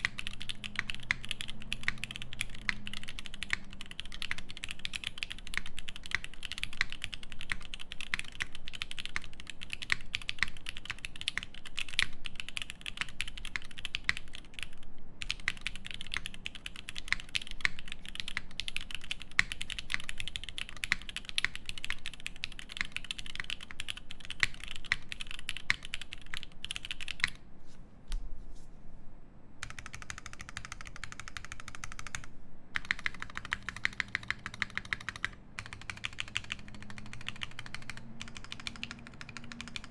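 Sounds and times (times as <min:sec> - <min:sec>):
fast mechanical keyboard typing: 0:00.0 - 0:27.4, 0:29.6 - 0:39.9.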